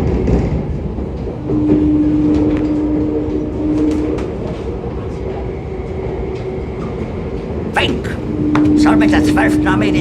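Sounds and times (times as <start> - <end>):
electric train rumble: 0.0 - 10.0
steady tone: 1.5 - 10.0.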